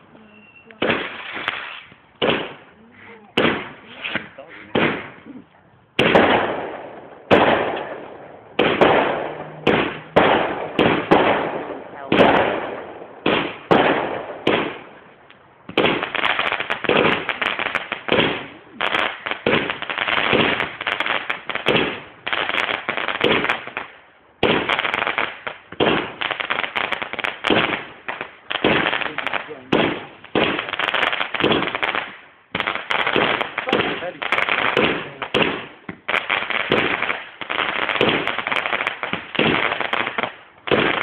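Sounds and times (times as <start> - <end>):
fireworks bangs: 0.0 - 41.0
rapid fireworks crackle: 0.0 - 41.0.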